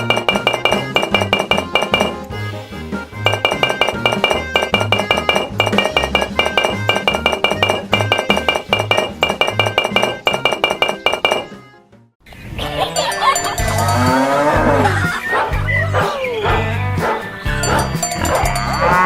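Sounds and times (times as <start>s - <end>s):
background music with steady beat: 0.0s - 12.1s, 13.0s - 19.0s.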